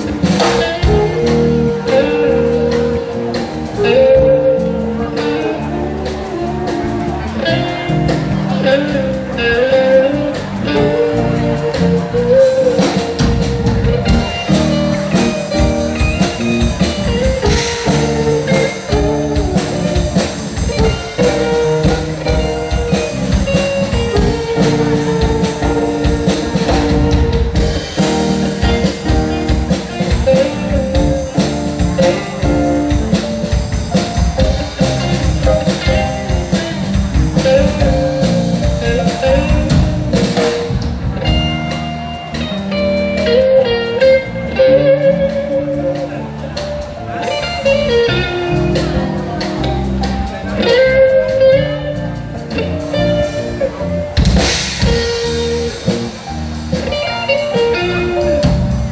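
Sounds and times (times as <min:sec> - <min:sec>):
busy drum beat: 0:00.0 - 0:58.9
electric guitar melody: 0:00.0 - 0:58.9
live rock band playing: 0:00.0 - 0:58.9.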